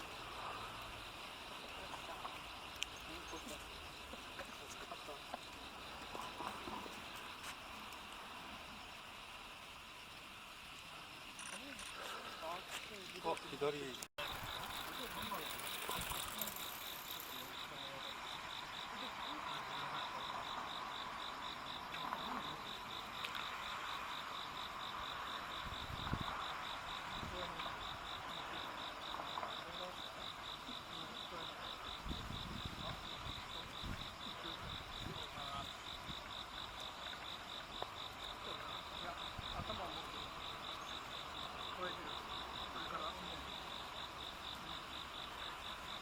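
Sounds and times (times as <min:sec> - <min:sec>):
hiss of insects: 0:00.0 - 0:46.0
insect chirping high-pitched: 0:00.0 - 0:46.0.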